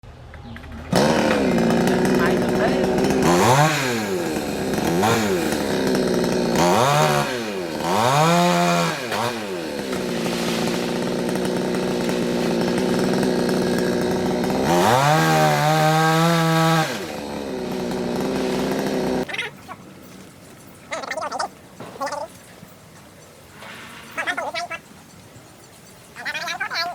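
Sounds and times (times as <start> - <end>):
chainsaw revving: 0.9 - 22.3, 26.1 - 26.9.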